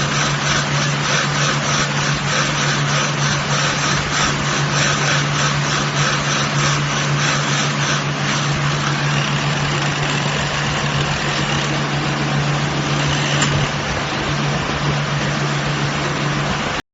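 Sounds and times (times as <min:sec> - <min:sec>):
baler machine running: 0:00.0 - 0:16.8.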